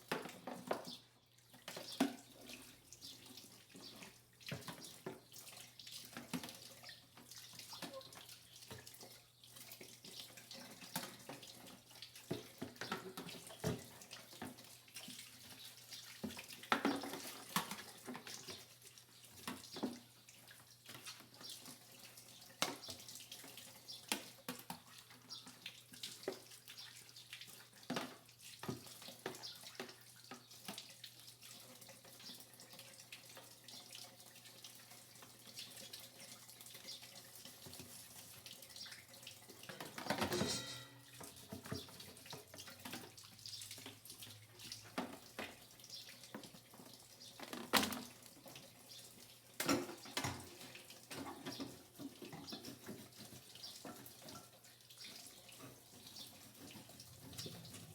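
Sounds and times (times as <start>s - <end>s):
tap water running into sink: 0.0s - 57.9s.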